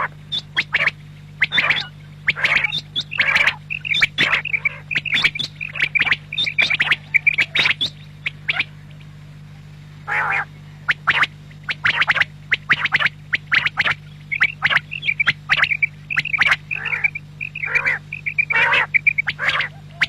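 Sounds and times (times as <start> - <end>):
electrical hum: 0.0 - 20.0
quail calling: 0.0 - 20.0.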